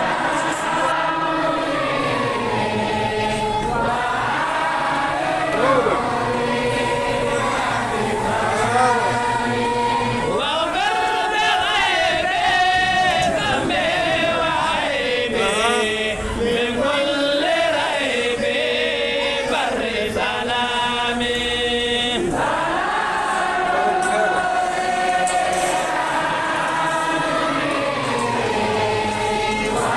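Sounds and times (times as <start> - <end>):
voices chanting together: 0.0 - 29.9.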